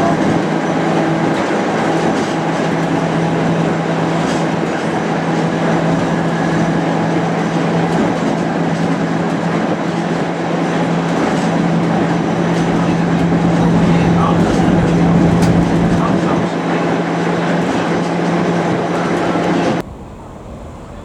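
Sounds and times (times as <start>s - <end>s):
low hum: 0.0s - 21.0s
tram wheels running on rails: 0.0s - 21.0s.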